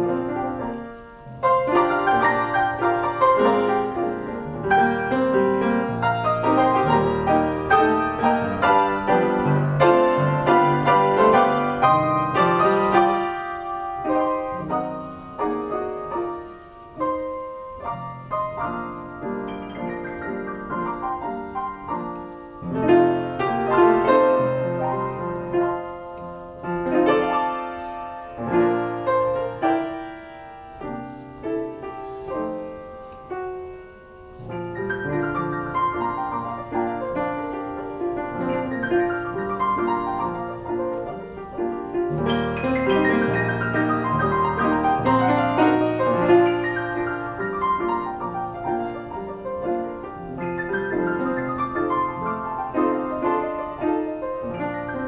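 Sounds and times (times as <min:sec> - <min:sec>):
player piano playing a ballad: 0:00.0 - 0:55.0.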